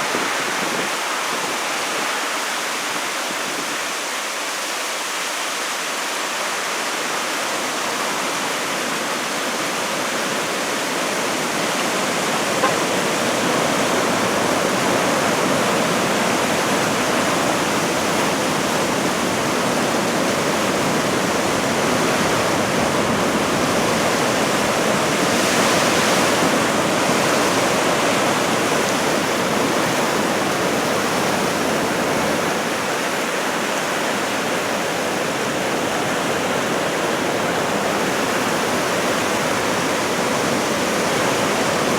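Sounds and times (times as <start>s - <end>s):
ocean surf breaking: 7.4s - 41.9s.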